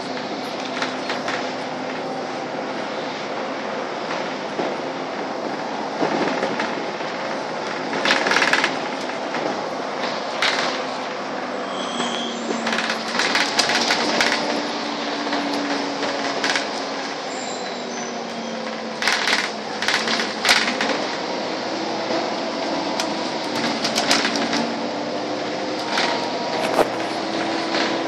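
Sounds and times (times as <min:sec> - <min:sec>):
bus engine droning: 0:00.0 - 0:28.0
road noise: 0:00.0 - 0:28.0.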